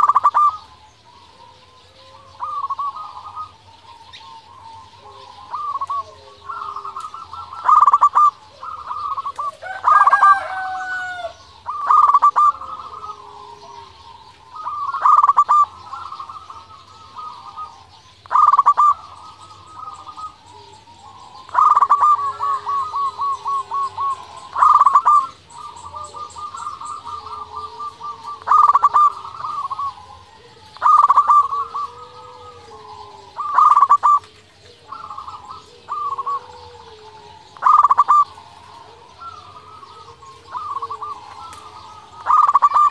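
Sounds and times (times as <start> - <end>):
dove cooing: 0.0 - 42.9
faint high bird chirps: 0.0 - 42.9.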